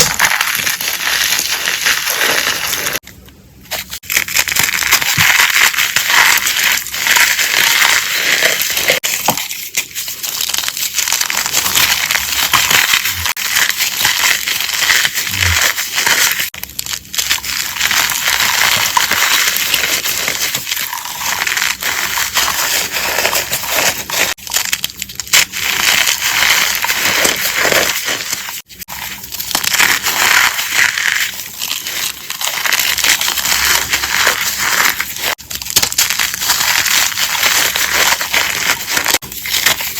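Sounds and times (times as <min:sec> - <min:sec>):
chalk crunching and crackling: 0:00.0 - 0:39.9.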